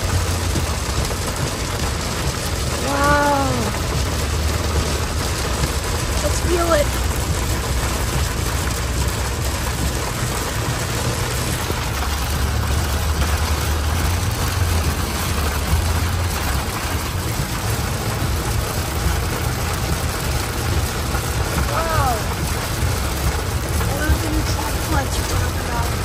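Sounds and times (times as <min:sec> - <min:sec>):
engine idling rumble: 0:00.0 - 0:26.0
heavy rain on truck roof: 0:00.0 - 0:26.0.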